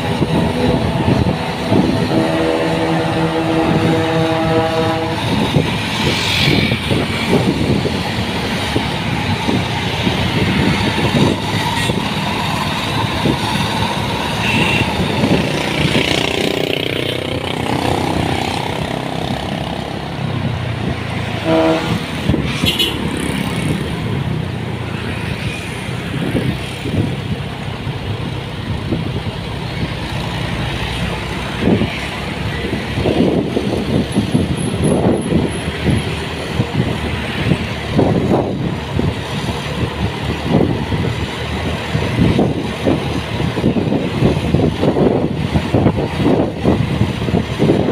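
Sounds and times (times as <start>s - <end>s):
heavy vehicle engine and road noise: 0.0s - 47.9s.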